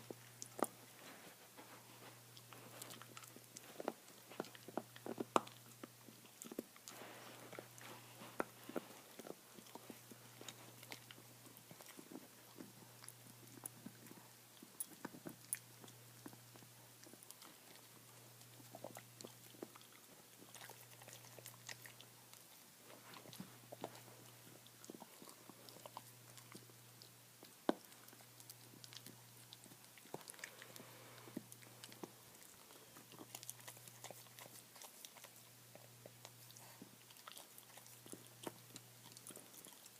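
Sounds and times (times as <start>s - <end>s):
dog gnawing on bone: 0.0s - 39.9s.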